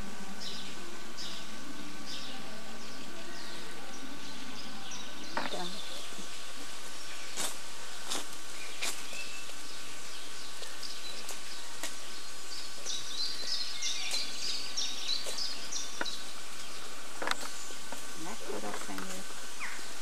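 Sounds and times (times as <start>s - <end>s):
outdoor background hiss: 0.0s - 20.0s
songbird chirping: 0.0s - 20.0s.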